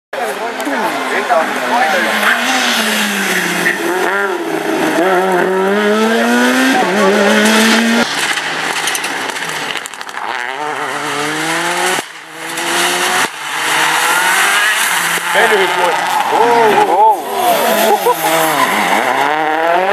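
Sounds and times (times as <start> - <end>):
rally car engines accelerating: 0.2 - 19.9.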